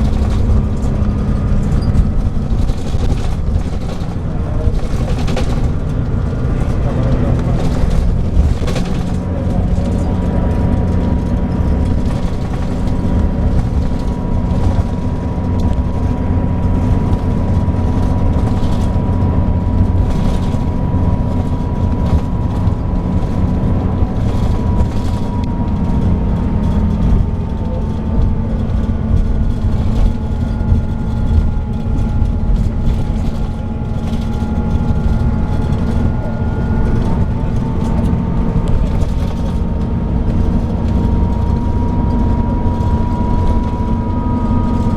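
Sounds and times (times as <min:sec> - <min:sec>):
bus diesel engine droning: 0:00.0 - 0:44.9
higher whine: 0:00.0 - 0:44.9.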